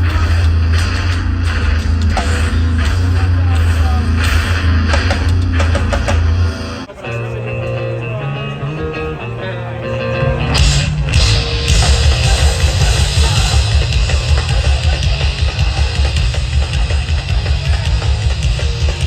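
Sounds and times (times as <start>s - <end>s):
heavy rock band playing: 0.0s - 19.0s.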